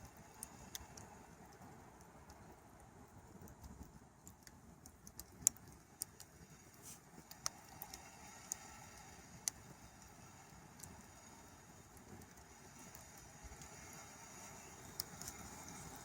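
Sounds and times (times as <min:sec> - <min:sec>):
campfire crackling: 0:00.0 - 0:16.0
faint steady hiss: 0:00.0 - 0:16.0.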